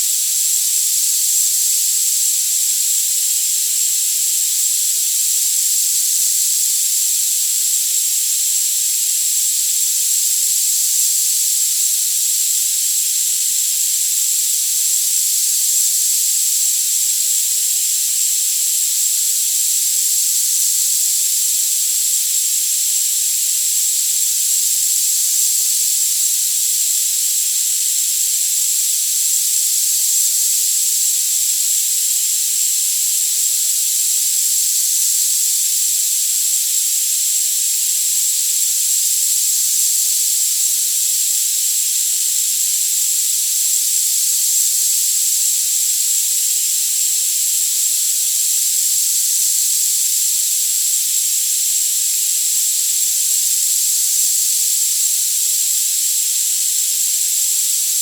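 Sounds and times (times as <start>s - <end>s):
high-pitched hiss: 0.0s - 58.0s.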